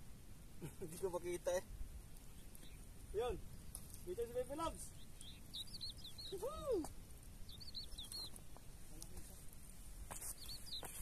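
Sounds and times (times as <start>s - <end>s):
small bird chirping: 2.0s - 11.0s.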